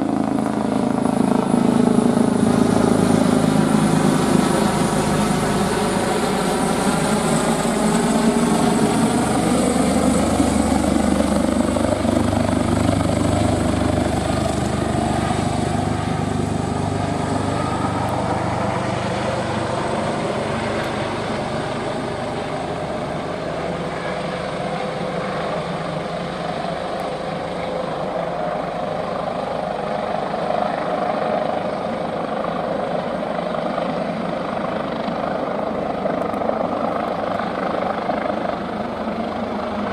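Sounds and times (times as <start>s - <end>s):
helicopter engines and rotors: 0.0s - 39.9s.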